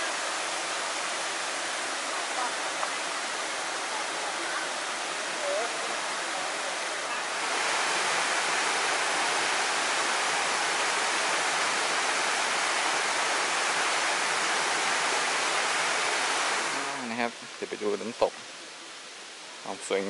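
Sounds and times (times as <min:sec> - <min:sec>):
small waterfall rushing: 0:00.0 - 0:20.0.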